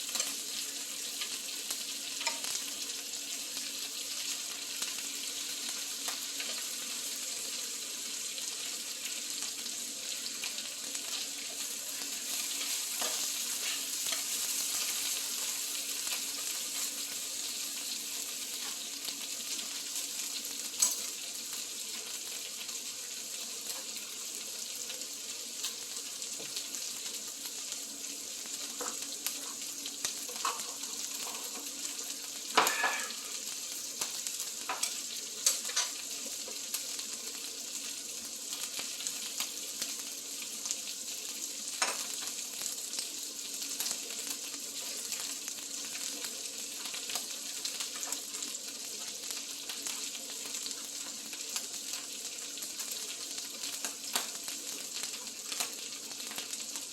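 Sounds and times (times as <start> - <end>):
meat sizzling in a pan: 0.0 - 56.9.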